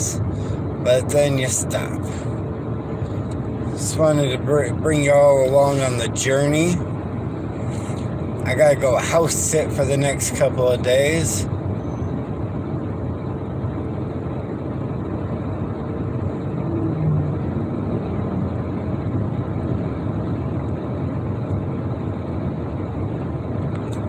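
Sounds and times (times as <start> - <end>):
road noise inside vehicle cabin: 0.0 - 24.0.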